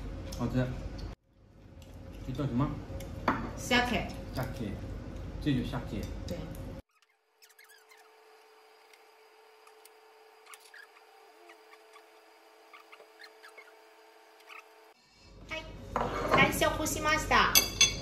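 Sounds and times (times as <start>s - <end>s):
faint room hum: 0.0s - 6.8s, 7.4s - 18.0s.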